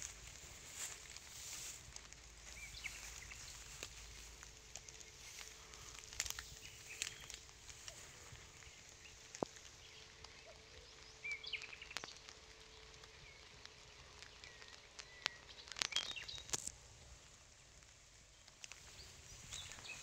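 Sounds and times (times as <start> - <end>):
birds chirping: 0.0 - 20.0
low hiss: 0.0 - 20.0.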